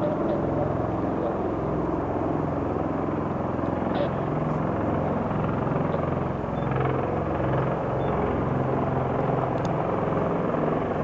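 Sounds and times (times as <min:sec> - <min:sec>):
aircraft engine pulsing drone: 0:00.0 - 0:11.0.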